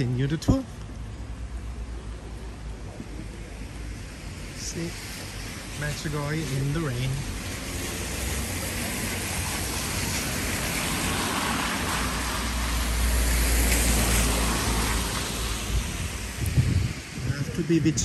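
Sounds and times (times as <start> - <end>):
tyres hissing on wet road: 1.1 - 18.0.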